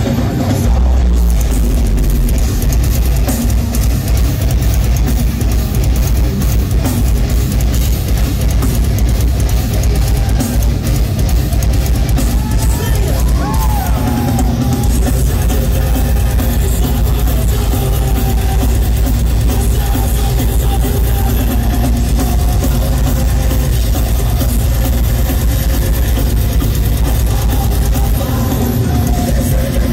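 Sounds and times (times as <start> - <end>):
fast dense drumming: 0.0 - 29.9
heavy distorted guitars and bass: 0.0 - 29.9.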